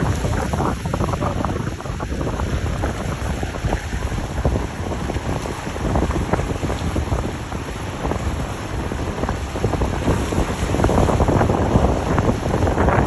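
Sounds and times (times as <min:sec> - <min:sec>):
churning water: 0:00.0 - 0:13.0
rumble of passing boats: 0:00.0 - 0:13.0
wind buffeting microphone: 0:00.0 - 0:13.0.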